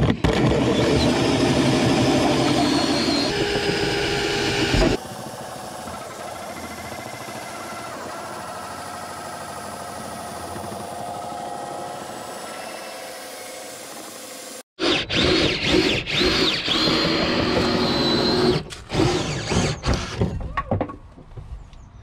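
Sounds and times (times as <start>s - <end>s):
cordless drill with hole saw whining: 0.0s - 5.0s, 5.6s - 20.3s.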